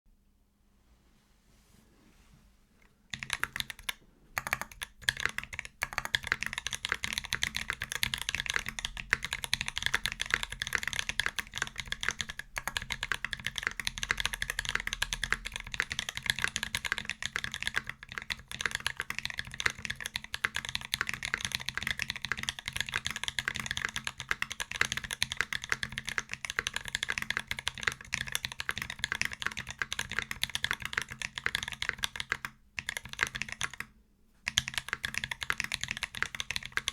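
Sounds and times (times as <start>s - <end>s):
fast typing on mechanical keyboard: 3.1s - 33.9s, 34.5s - 36.9s.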